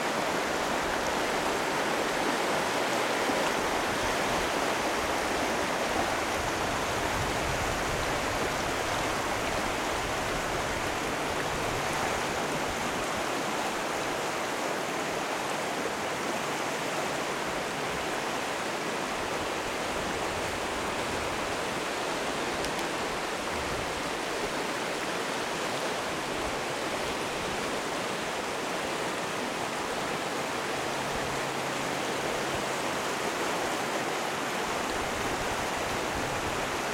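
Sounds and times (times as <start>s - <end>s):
river rushing over rocks: 0.0s - 36.9s.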